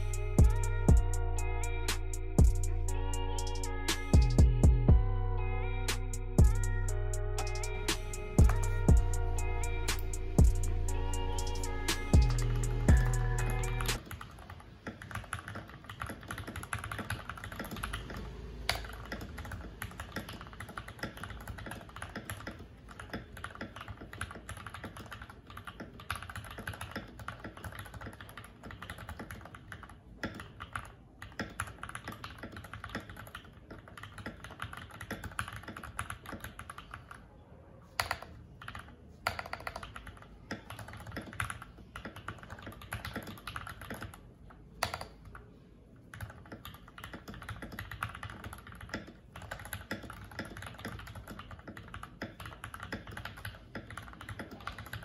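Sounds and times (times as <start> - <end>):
typing on mechanical keyboard: 7.4 - 37.3, 38.0 - 55.0.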